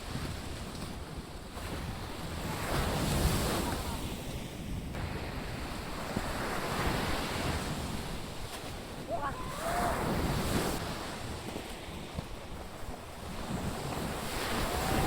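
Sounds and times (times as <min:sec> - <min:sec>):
wind buffeting microphone: 0:00.0 - 0:15.0
surf breaking on beach: 0:01.5 - 0:15.0.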